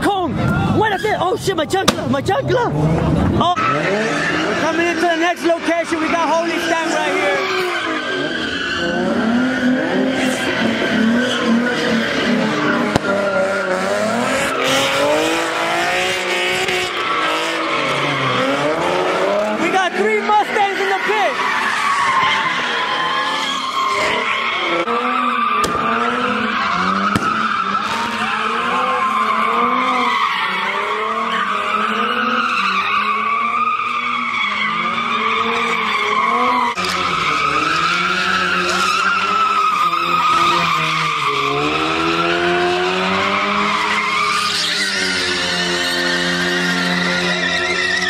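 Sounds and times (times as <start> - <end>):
car engine revving: 0.3 - 48.0
tyres squealing: 3.5 - 48.0.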